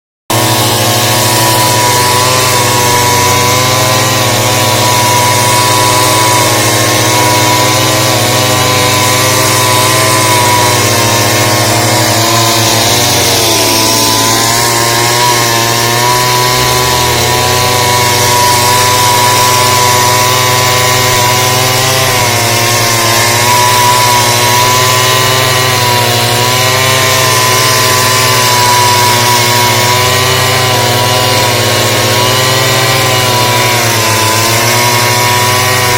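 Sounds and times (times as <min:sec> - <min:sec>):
chainsaw cutting at high revs: 0:00.0 - 0:35.9.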